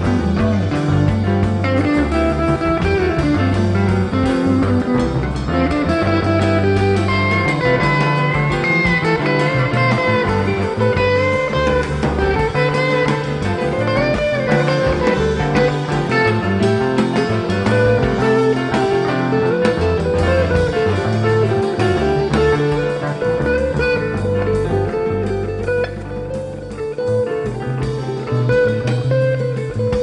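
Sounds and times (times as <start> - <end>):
blues-rock guitar music: 0.0 - 30.0.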